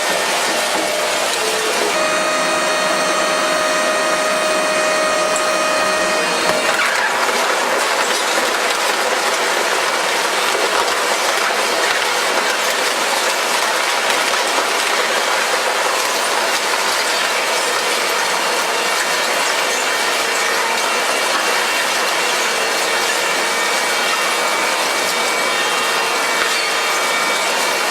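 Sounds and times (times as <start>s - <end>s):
fan motor whirring and rattling: 0.0s - 27.9s.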